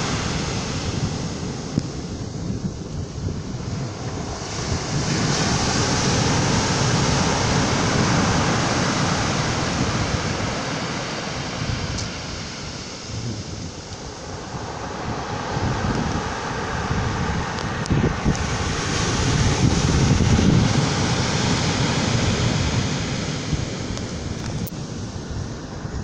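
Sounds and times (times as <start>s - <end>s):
surf on pebble beach: 0.0s - 26.0s.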